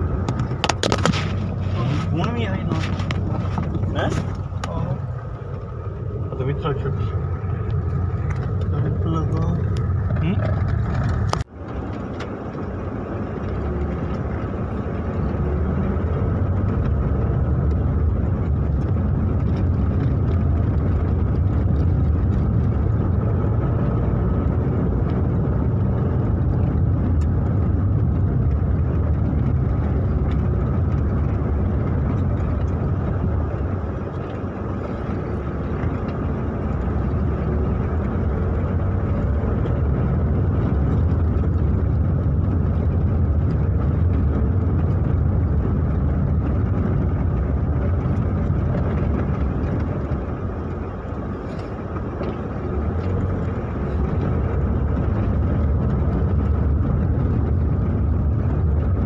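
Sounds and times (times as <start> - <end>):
vehicle engine and tyre rumble: 0.0 - 59.0.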